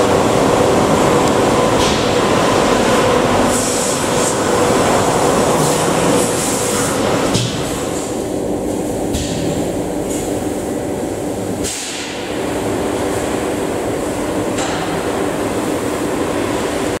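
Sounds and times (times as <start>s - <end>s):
laser cutting machine humming: 0.0s - 17.0s.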